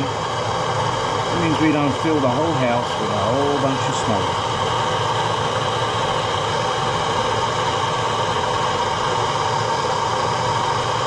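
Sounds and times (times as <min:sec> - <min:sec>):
propane torch hissing: 0:00.0 - 0:11.0.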